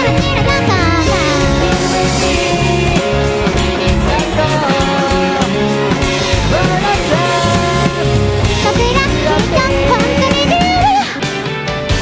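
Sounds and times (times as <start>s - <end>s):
bass guitar: 0.0s - 12.0s
drums: 0.0s - 12.0s
electric guitar: 0.0s - 12.0s
keyboards: 0.0s - 12.0s
man singing: 0.6s - 10.8s.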